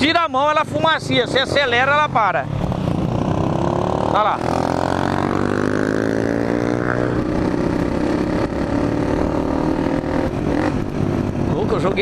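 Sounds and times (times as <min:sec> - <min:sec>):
motorcycle engine running: 0:01.0 - 0:12.0.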